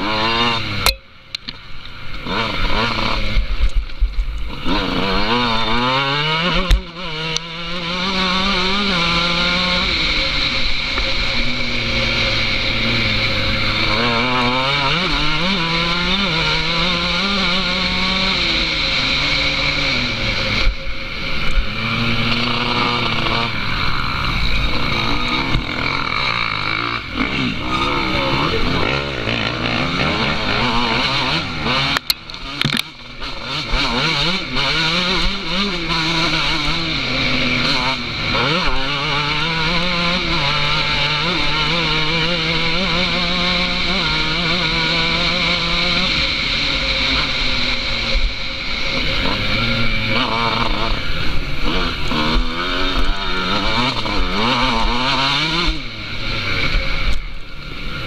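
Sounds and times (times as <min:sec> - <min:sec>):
road and wind noise: 0:00.0 - 0:58.0
car engine revving: 0:02.1 - 0:58.0.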